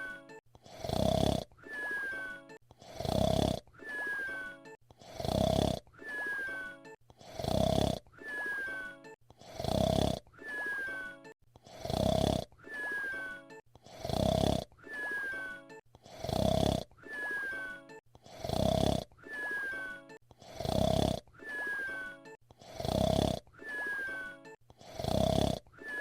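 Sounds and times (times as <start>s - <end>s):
cartoon whistle snore: 0.0s - 26.0s.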